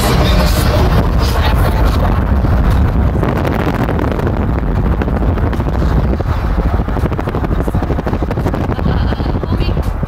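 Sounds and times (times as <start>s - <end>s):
car engine and road rumble: 0.0s - 10.0s
wind buffeting microphone: 0.0s - 10.0s.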